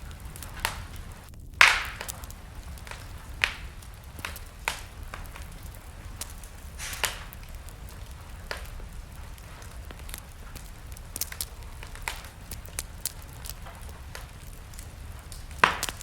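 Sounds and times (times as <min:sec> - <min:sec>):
burning logs crackling and popping: 0:00.0 - 0:16.0
low rumble of flame: 0:00.0 - 0:16.0.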